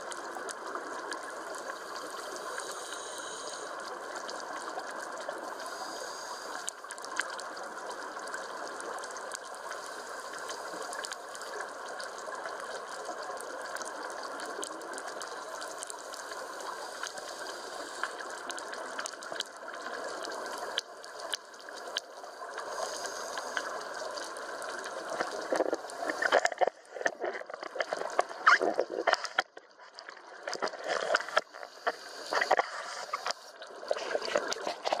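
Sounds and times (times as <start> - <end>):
steady underwater hiss: 0.0 - 35.0
regulator bubbles gushing: 6.5 - 35.0.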